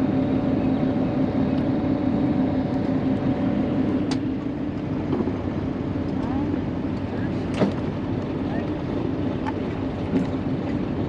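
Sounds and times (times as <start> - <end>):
diesel engine running at low speed: 0.0 - 11.0.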